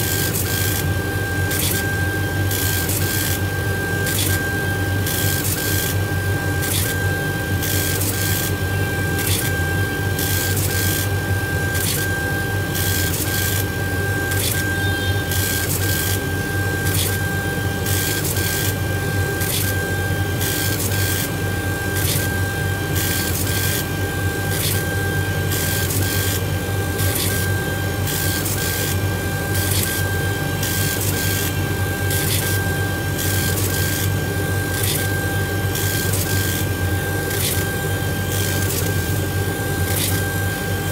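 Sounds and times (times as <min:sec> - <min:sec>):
laser engraver motor whine: 0:00.0 - 0:40.9.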